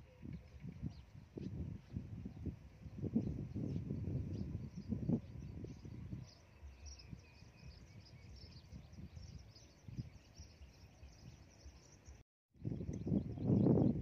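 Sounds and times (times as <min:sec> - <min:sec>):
insects and birds chirping: 0:00.4 - 0:12.2.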